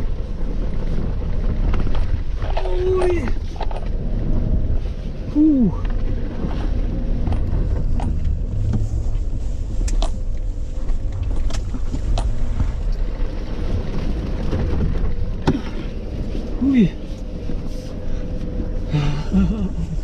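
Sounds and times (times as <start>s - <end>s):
engine and drivetrain under load: 0.0s - 20.0s.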